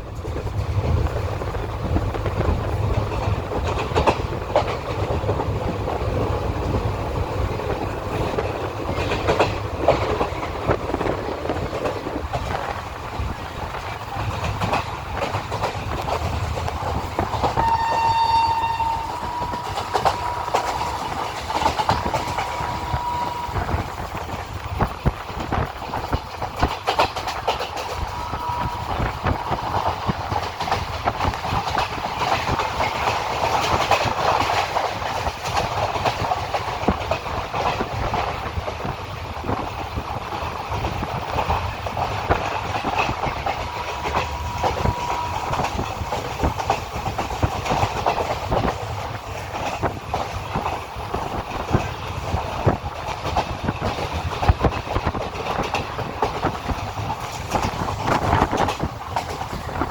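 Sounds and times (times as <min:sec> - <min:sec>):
train rumbling on track: 0:00.0 - 0:59.9
wheels clickety-clack on rail joints: 0:00.0 - 0:59.9.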